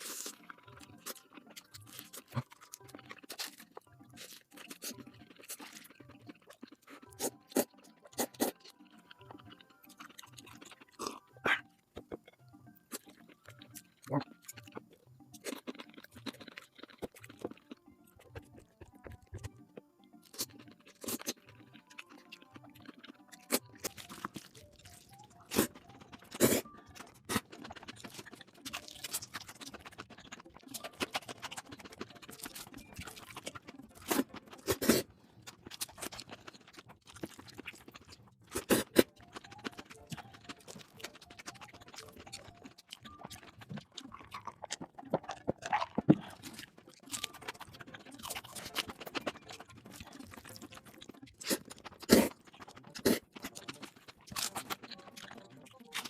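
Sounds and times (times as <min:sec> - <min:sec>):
person chewing and slurping noodles: 0:00.0 - 0:56.0.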